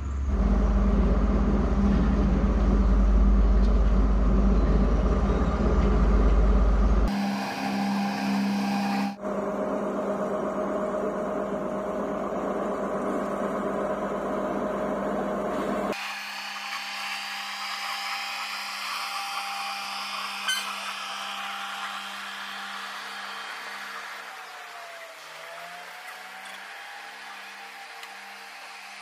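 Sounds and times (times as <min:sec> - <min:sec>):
diesel train engine droning: 0:00.0 - 0:29.0.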